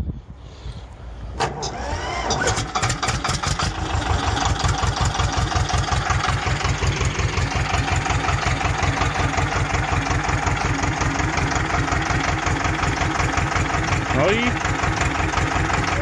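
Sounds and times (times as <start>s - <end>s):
diesel engine idling: 0.8s - 16.0s.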